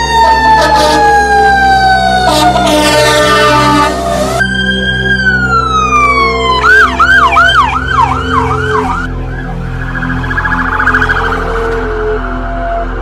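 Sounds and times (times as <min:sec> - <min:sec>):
electronic siren wailing and yelping: 0:00.0 - 0:12.4
steady low drone: 0:00.0 - 0:13.0.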